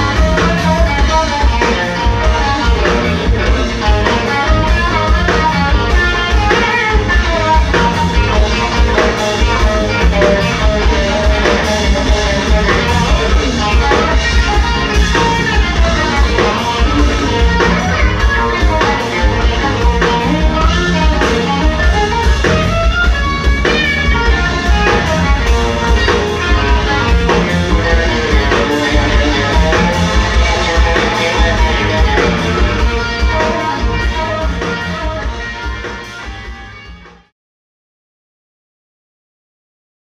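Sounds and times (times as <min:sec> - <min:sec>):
drum kit: 0:00.0 - 0:37.3
electric bass: 0:00.0 - 0:37.3
electric guitar lead: 0:00.0 - 0:37.3.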